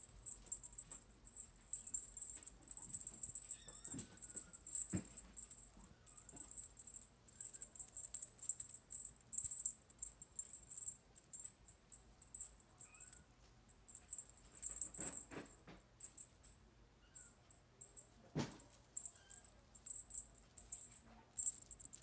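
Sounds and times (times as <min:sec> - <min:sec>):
jingling toy rattle: 0:00.0 - 0:15.4, 0:17.8 - 0:22.0.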